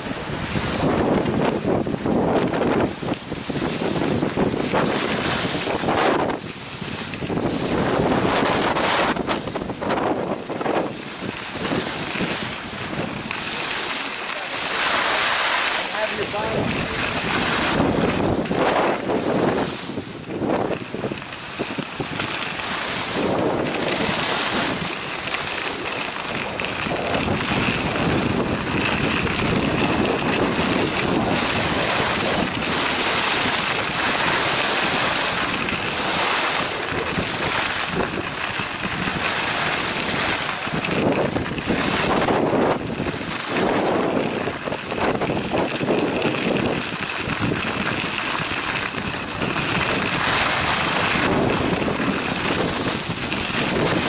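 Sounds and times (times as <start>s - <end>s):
skis sliding over snow: 0.0s - 54.0s
wind rushing over microphone: 0.0s - 54.0s.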